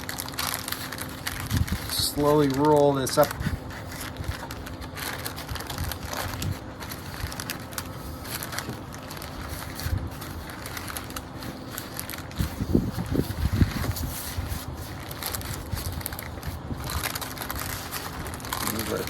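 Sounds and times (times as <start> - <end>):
parchment paper crinkling: 0.0 - 19.0.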